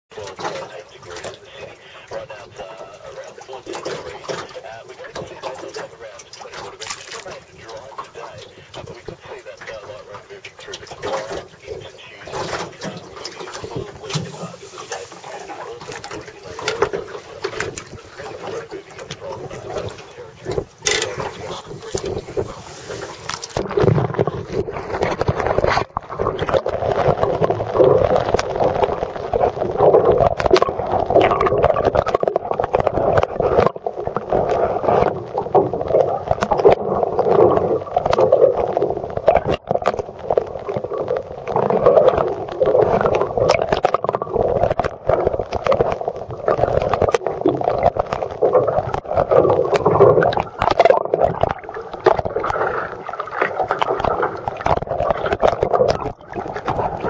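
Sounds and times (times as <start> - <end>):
muffled underwater water rush: 0.1 - 57.0
scattered underwater clicks: 0.1 - 57.0.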